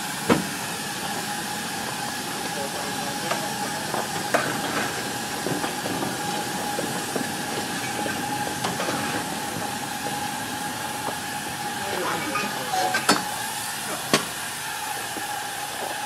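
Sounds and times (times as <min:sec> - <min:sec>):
steam hissing: 0:00.0 - 0:16.0.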